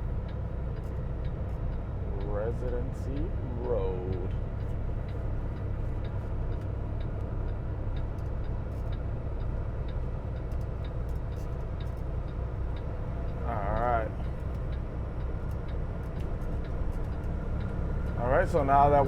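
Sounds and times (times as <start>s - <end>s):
truck engine and road rumble: 0.0s - 19.0s
light regular ticking: 0.2s - 18.8s.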